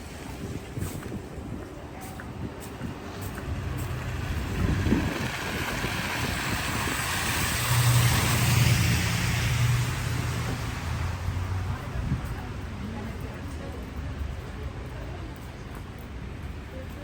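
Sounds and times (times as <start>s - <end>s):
tyre hiss on wet street: 0.0s - 13.6s
low engine hum: 0.0s - 14.6s.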